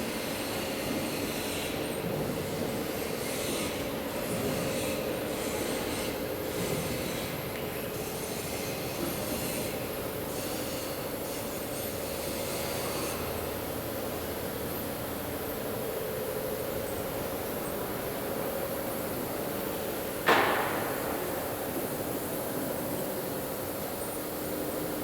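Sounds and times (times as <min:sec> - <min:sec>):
machinery hiss: 0:00.0 - 0:25.0
industrial machinery hum: 0:00.1 - 0:25.0.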